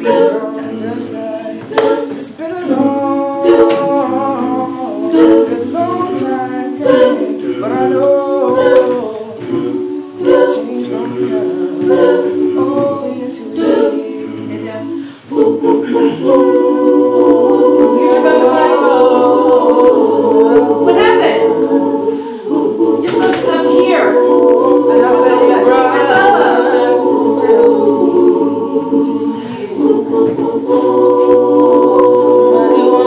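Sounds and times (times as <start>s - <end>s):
choir singing in harmony: 0.0s - 33.0s.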